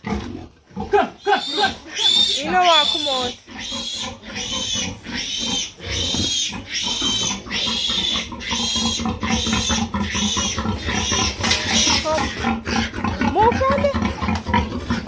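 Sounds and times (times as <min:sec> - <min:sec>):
pig squealing: 0:00.1 - 0:15.0.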